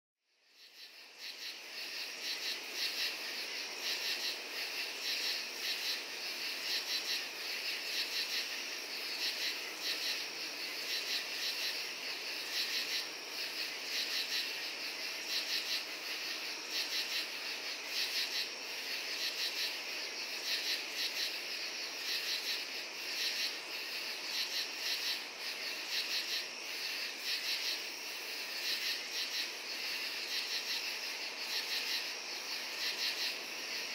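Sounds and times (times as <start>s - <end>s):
crickets and katydids chirring: 0.4s - 33.9s.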